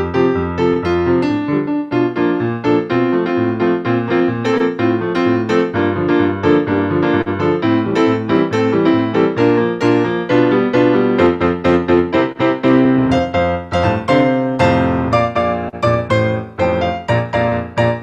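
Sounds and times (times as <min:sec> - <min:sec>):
solo piano playing: 0:00.0 - 0:18.0.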